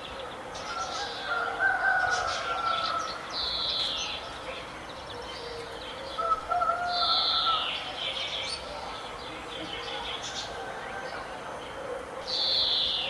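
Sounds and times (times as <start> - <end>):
birds calling and chirping: 0.0 - 13.0.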